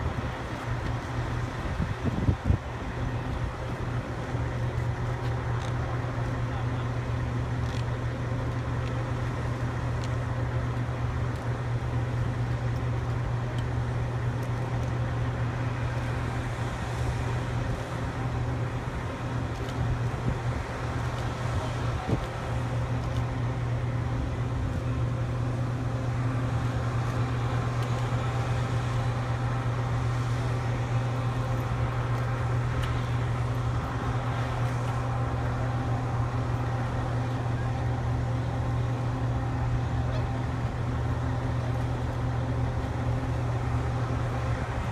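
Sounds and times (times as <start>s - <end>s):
low engine drone: 0.0s - 44.9s.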